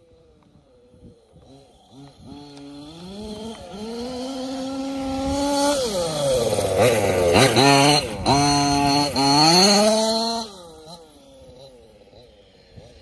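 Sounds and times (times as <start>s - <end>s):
rc buggy two-stroke engine revving: 0.0s - 13.0s.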